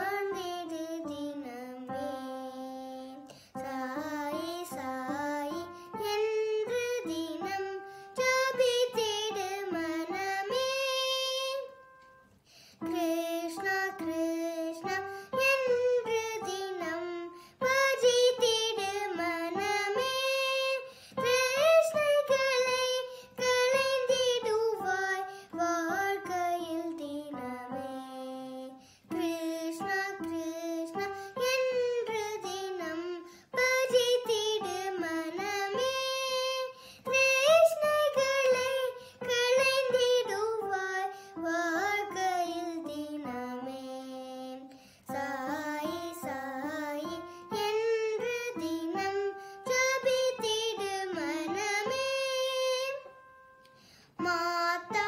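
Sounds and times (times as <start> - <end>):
girl singing: 0.0 - 55.0.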